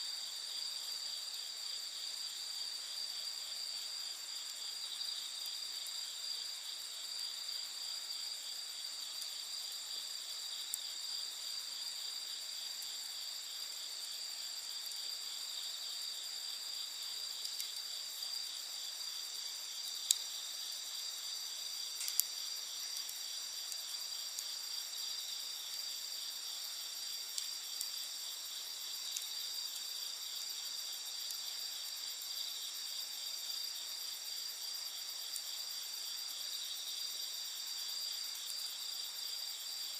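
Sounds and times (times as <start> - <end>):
night insects chirring: 0.0 - 39.9
campfire crackling: 3.1 - 39.9.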